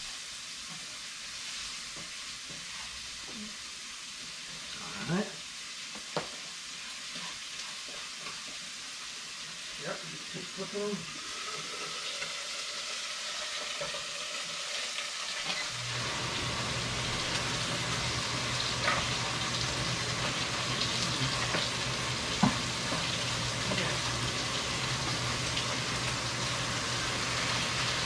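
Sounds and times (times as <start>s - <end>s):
fish and onions sizzling in oil: 0.0s - 28.0s.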